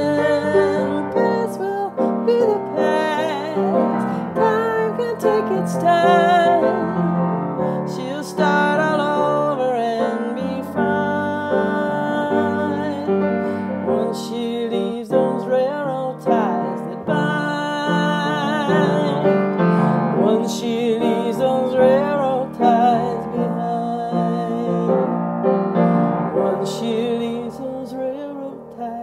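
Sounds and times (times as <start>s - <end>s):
piano: 0.0s - 29.0s.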